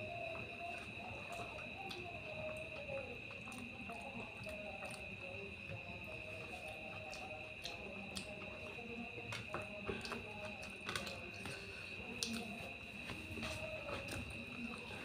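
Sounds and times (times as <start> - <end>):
constant high-pitched whine: 0.0 - 15.0
wet chewing and lip smacks: 0.3 - 15.0.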